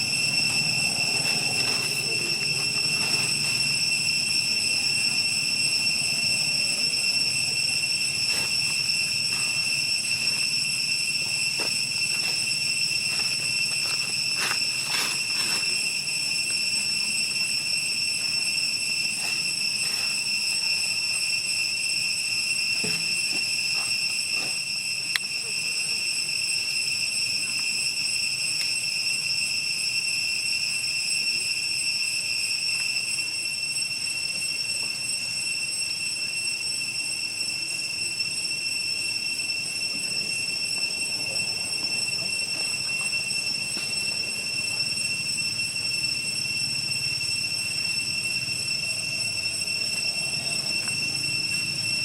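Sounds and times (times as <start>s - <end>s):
high-pitched insect drone: 0.0s - 52.0s.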